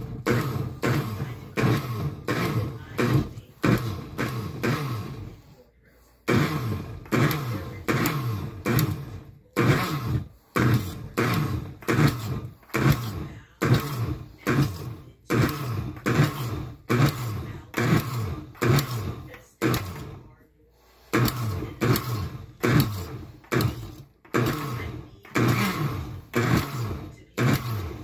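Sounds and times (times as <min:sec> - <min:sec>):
blender pulsing: 0:00.0 - 0:28.0.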